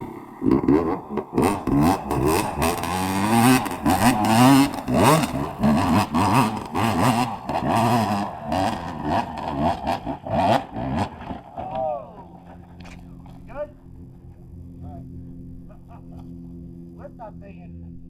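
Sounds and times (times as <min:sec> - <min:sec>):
dirt bike engine revving: 0:00.0 - 0:16.8.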